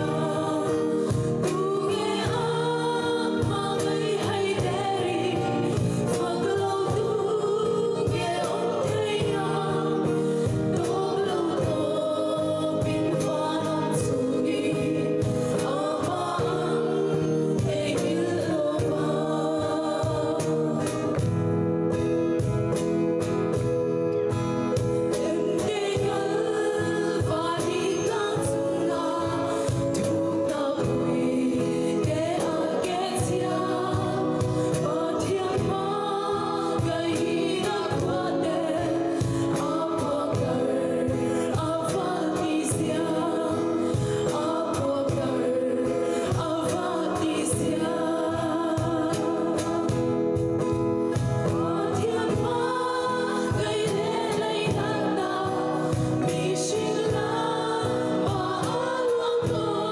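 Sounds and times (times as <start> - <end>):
women singing in harmony: 0.0 - 22.2, 24.2 - 59.9
instrumental accompaniment: 0.0 - 59.9.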